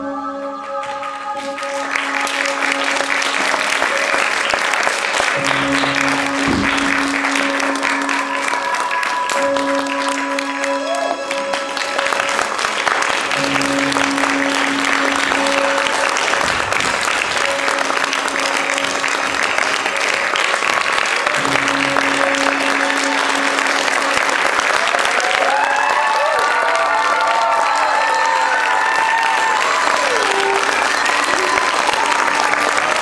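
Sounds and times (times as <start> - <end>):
background music: 0.0 - 33.0
audience applauding: 0.6 - 33.0.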